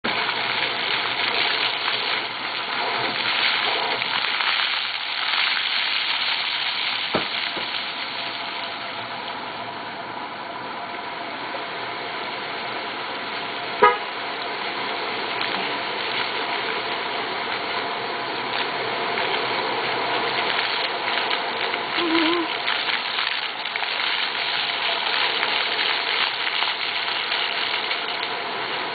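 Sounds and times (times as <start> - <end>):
water fountain splashing: 0.0 - 28.9.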